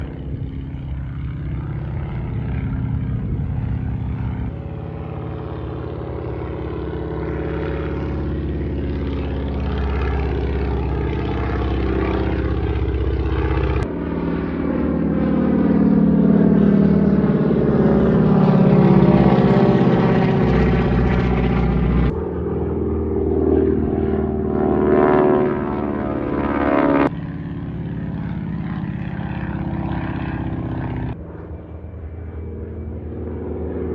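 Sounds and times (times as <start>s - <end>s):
propeller aircraft droning: 0.0s - 33.9s.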